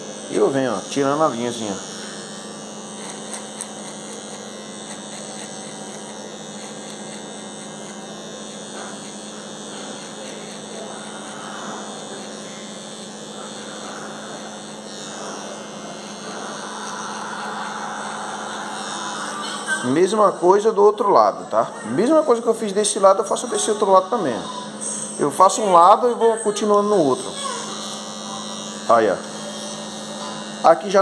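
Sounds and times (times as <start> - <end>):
hair trimmer humming: 0.0 - 31.0.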